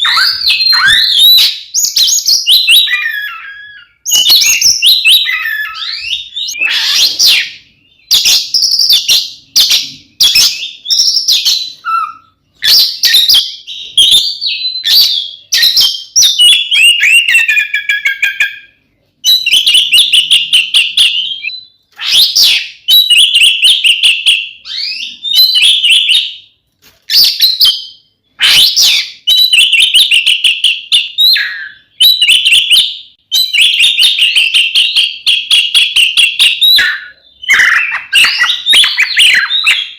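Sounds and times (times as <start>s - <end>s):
magpie-robin singing: 0.0s - 26.5s, 27.1s - 39.9s.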